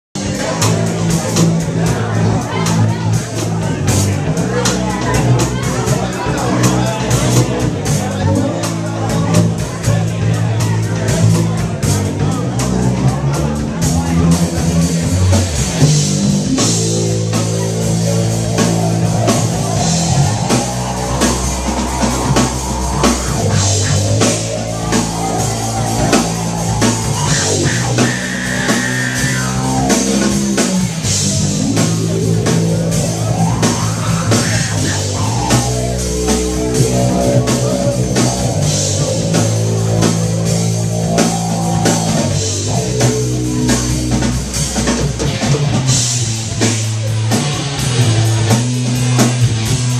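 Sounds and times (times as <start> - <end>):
drum kit: 0.2 - 49.9
electric bass long low notes: 0.2 - 49.9.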